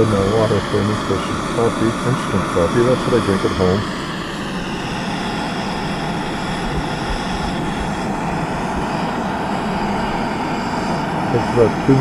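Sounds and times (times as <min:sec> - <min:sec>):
camp stove burner hissing: 0:00.0 - 0:12.0.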